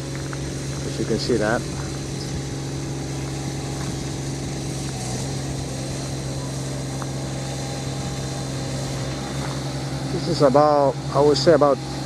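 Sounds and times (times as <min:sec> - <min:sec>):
mower engine droning: 0:00.0 - 0:12.0.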